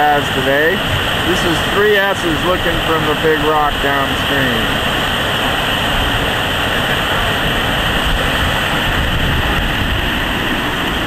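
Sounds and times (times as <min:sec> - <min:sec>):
rushing whitewater: 0:00.0 - 0:11.0.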